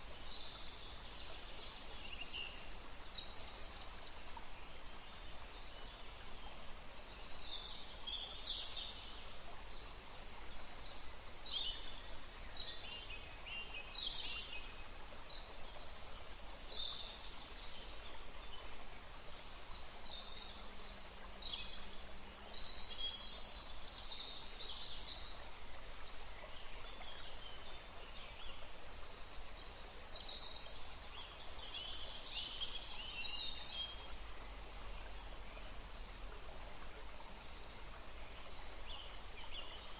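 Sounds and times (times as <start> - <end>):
forest ambience hiss: 0.0 - 39.9.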